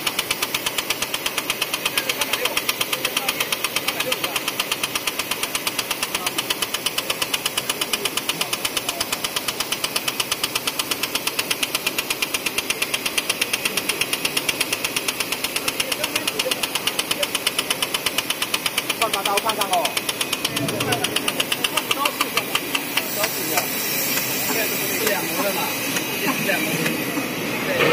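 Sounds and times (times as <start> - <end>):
die-cutting machine clattering: 0.0 - 27.0.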